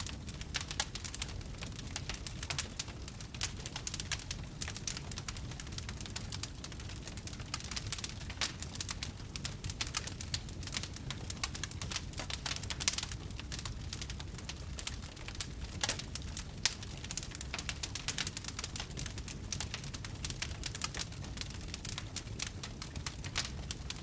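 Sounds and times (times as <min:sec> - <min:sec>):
campfire snapping and popping: 0:00.0 - 0:24.0
low rumble of burning: 0:00.0 - 0:24.0.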